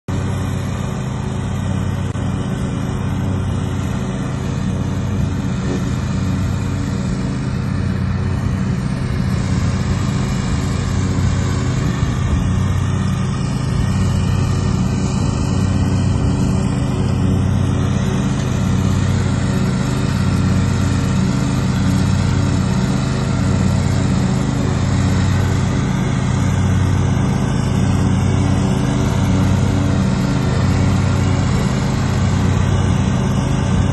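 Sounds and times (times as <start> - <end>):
riding mower engine running: 0.1 - 33.9.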